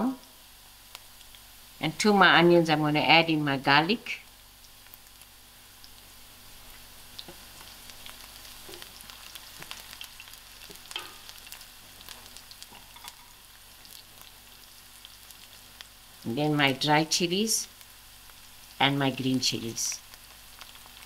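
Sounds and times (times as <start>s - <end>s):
garlic and onions sizzling in oil: 0.0s - 21.0s.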